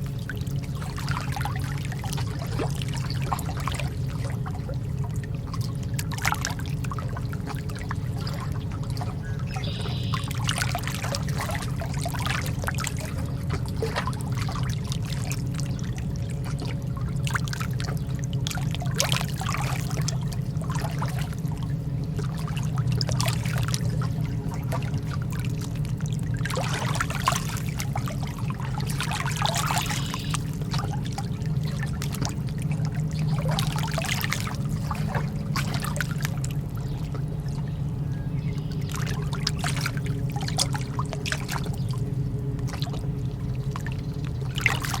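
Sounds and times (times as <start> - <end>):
lake water lapping: 0.0 - 45.0
steady low hum: 0.0 - 45.0.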